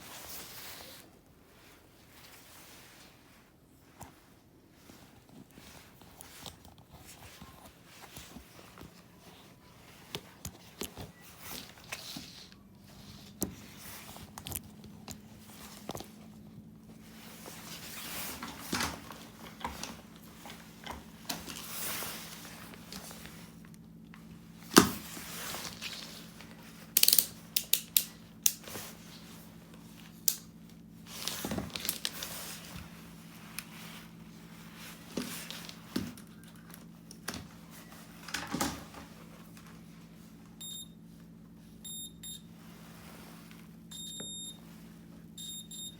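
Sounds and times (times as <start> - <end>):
faint low hum: 0.0 - 45.9.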